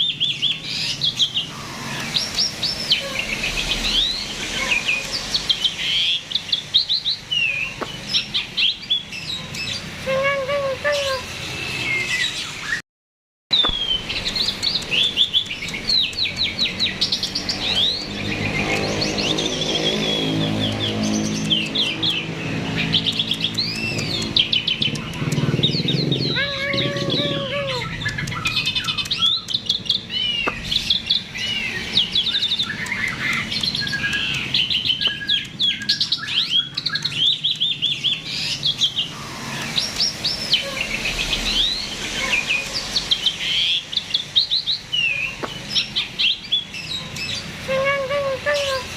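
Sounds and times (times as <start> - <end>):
starling singing: 0.0 - 12.8, 13.5 - 48.9.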